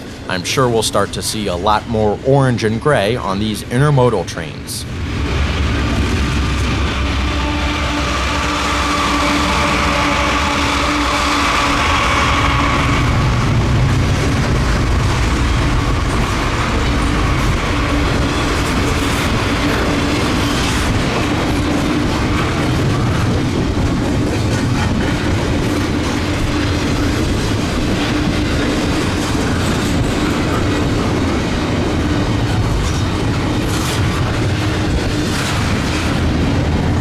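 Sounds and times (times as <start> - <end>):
train wheels rumbling on rail: 0.0 - 2.2, 4.4 - 37.0
constant hum: 0.0 - 37.0.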